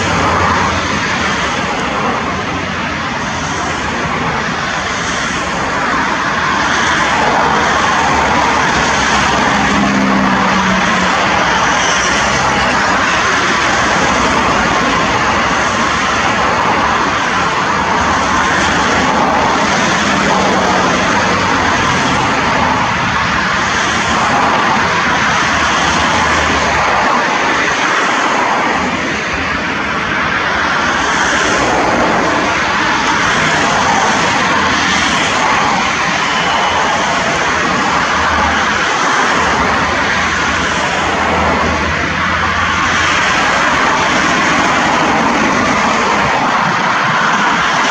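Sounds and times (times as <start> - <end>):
jet engines rushing: 0.0 - 47.9.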